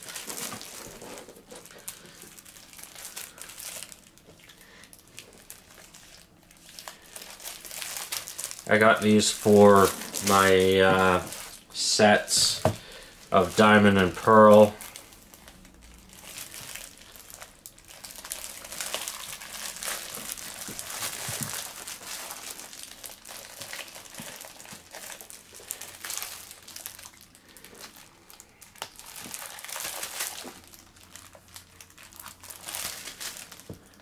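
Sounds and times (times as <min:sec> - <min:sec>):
plastic wrap crinkling: 0:00.0 - 0:34.0.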